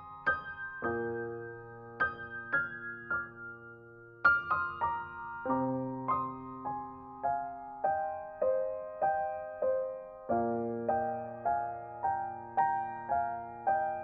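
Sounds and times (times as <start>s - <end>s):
soft solo piano melody: 0.0s - 14.0s.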